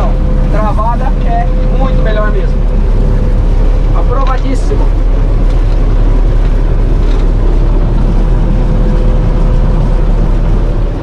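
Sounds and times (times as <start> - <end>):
combine harvester machinery drone: 0.0 - 11.0.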